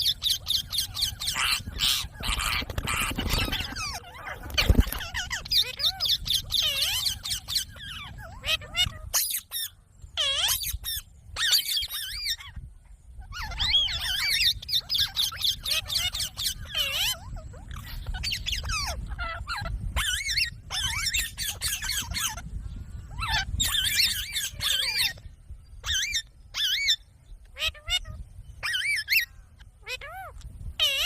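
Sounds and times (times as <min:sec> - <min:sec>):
parrot chattering and squawking: 0:00.0 - 0:22.5, 0:23.1 - 0:25.2, 0:25.8 - 0:31.0.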